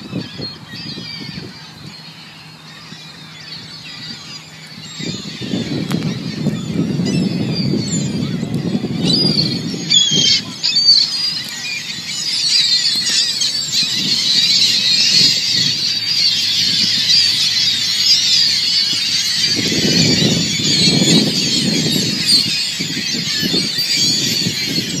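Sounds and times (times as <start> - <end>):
gulls calling: 0.0 - 25.0.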